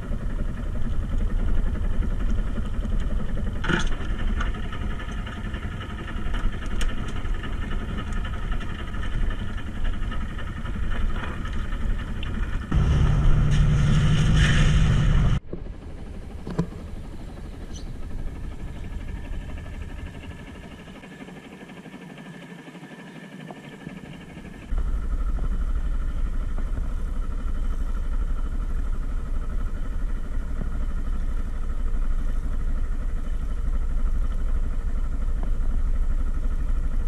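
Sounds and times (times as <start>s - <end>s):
boat engine idling: 0.0s - 37.0s.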